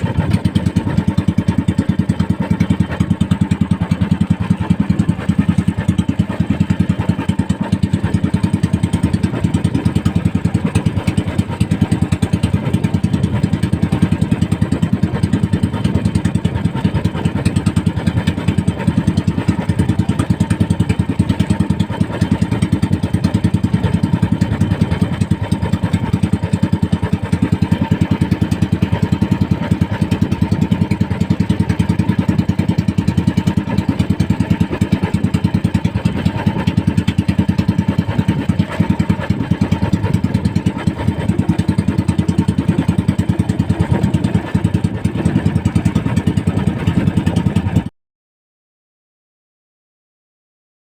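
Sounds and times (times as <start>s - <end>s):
small boat engine running: 0.0s - 47.9s.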